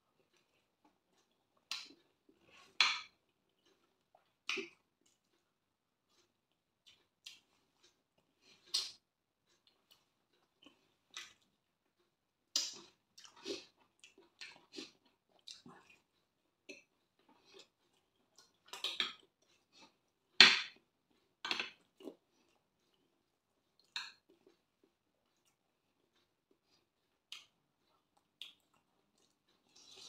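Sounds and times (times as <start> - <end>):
chewing and mouth sounds: 0.1 - 30.0.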